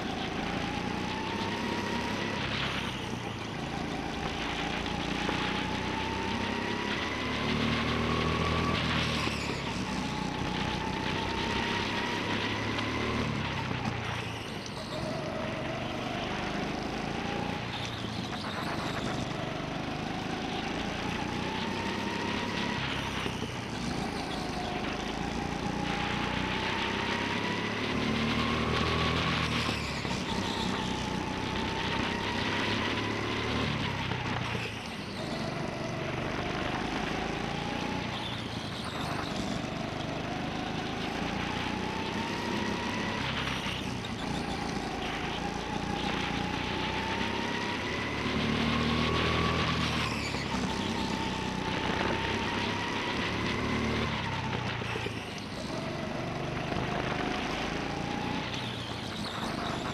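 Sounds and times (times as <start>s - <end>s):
go-kart motor whine: 0.0s - 59.9s.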